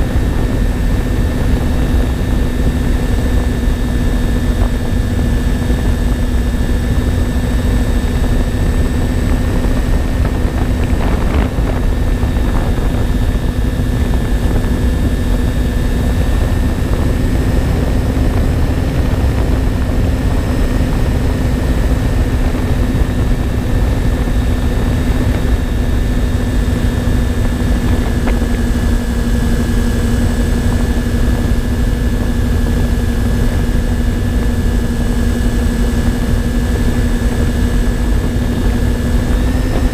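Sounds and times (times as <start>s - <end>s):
electric motors and propellers whining: 0.0s - 39.9s
wind rushing across microphone: 0.0s - 39.9s.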